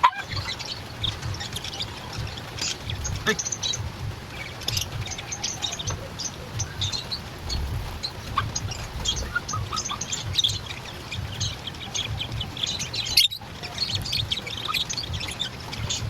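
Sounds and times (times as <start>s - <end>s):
birds chirping and squeaking: 0.0s - 16.0s.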